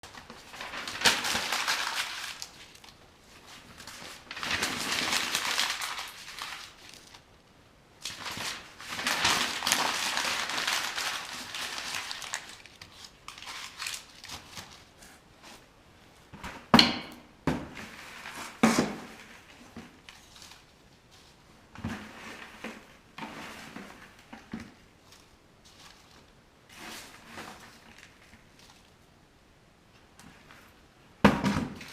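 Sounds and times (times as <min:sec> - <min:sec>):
crinkling rustling: 0:00.0 - 0:16.7, 0:17.7 - 0:29.2.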